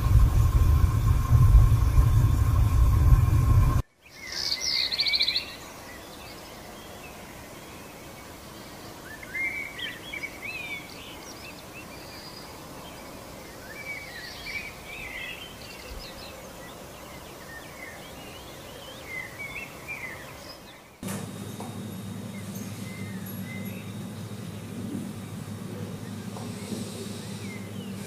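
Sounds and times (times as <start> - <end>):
outdoor background noise: 0.0 - 28.0
small birds twittering: 0.0 - 28.0.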